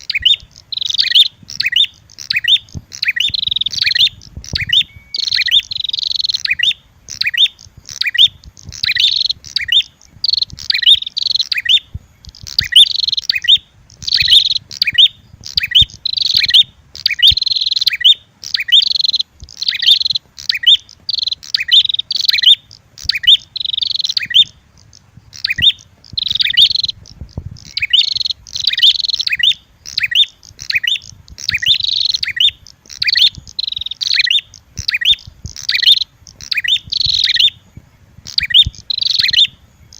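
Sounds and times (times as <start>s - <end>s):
rapid bird chirping: 0.0s - 39.9s.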